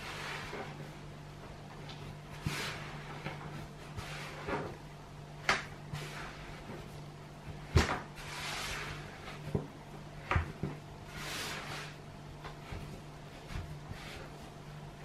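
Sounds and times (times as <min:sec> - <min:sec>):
dough rubbing and scraping: 0:00.0 - 0:15.0.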